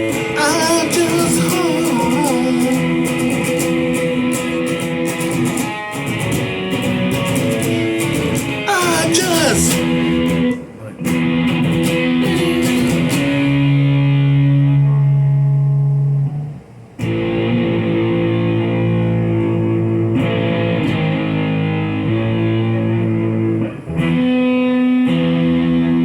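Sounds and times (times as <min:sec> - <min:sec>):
electric guitar ringing chords: 0:00.0 - 0:26.0.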